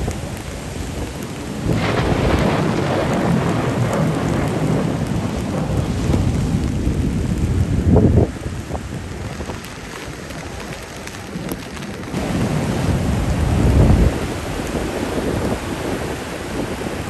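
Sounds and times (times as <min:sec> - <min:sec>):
surf crashing on a pebble beach: 0:00.0 - 0:17.0.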